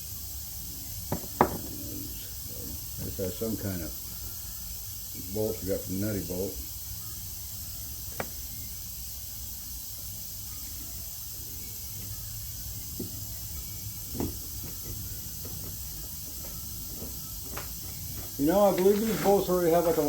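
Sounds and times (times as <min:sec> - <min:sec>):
background hiss and low hum: 0:00.0 - 0:20.0.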